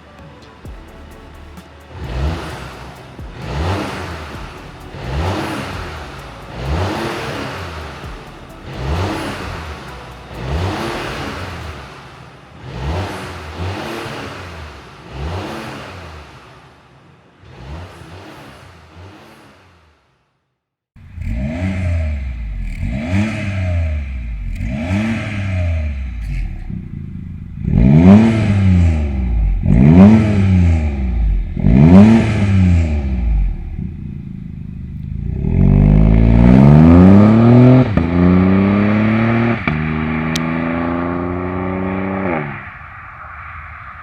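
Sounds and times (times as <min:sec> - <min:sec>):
car engine revving: 0:00.0 - 0:20.1, 0:21.0 - 0:44.0.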